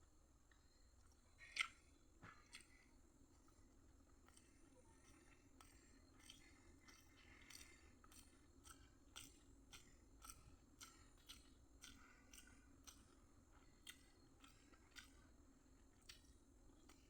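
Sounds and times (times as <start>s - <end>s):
close-miked chewing: 0.5s - 17.0s.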